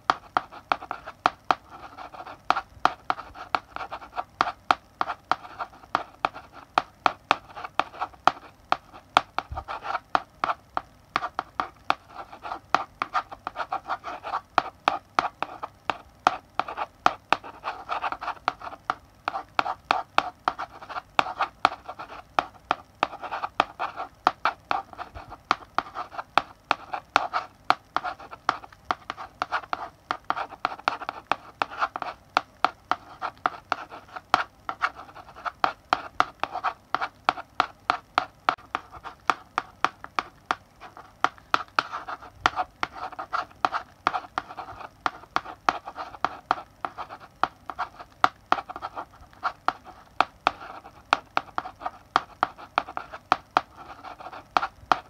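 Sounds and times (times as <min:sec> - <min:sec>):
chalk tapping and scratching on blackboard: 0:00.0 - 0:55.0.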